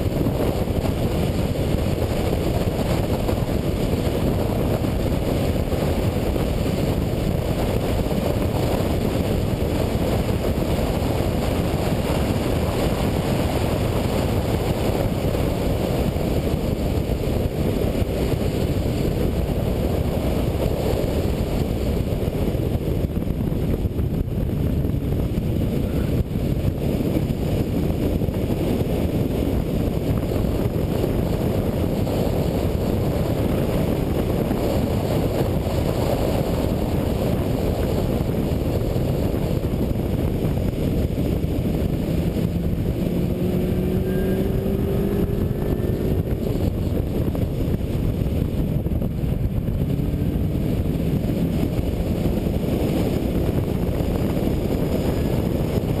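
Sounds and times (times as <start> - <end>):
car engine at speed: 0.0 - 56.0
wind rush: 0.0 - 56.0.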